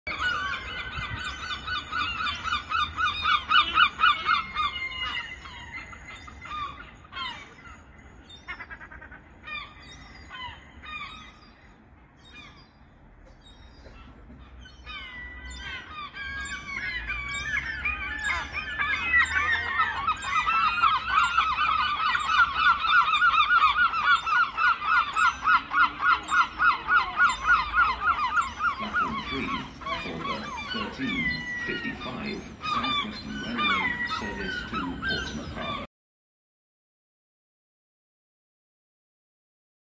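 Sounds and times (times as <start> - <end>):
gull chick begging calls: 0.1 - 11.7, 13.9 - 35.9.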